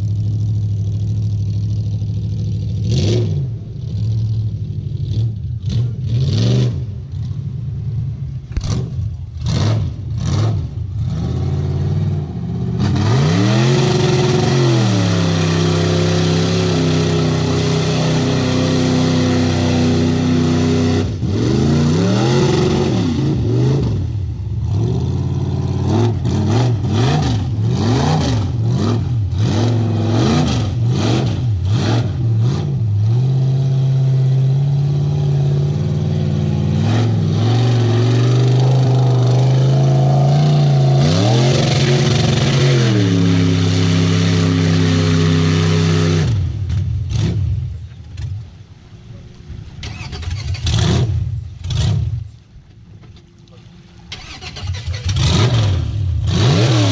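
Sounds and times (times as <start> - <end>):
engine revving: 0.0 - 7.6, 8.4 - 48.3, 49.8 - 52.4, 54.1 - 56.9.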